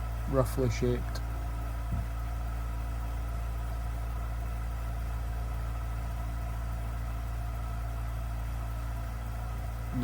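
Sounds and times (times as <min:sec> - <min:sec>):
electric motor humming: 0:01.1 - 0:10.0.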